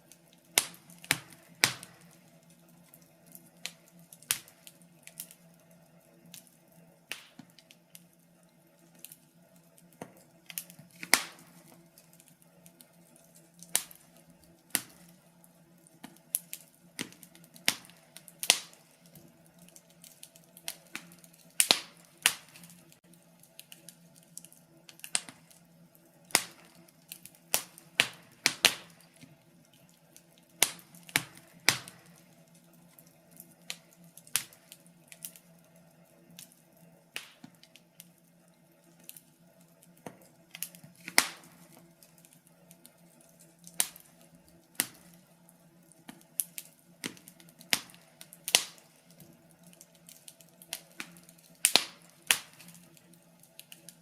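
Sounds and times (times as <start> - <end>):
faint steady hum: 0.0 - 54.0
wood fire crackling: 0.0 - 54.0.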